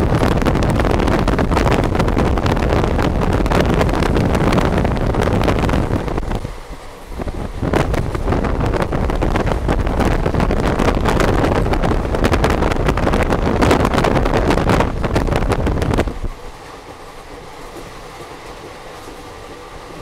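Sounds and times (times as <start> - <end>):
train coach rumbling on rails: 0.0 - 20.0
wind buffeting microphone: 0.0 - 20.0.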